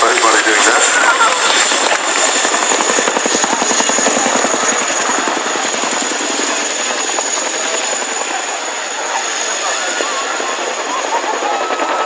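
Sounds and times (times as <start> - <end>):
helicopter rotor blades slapping: 0.0 - 12.0
high turbine whine: 0.0 - 12.0.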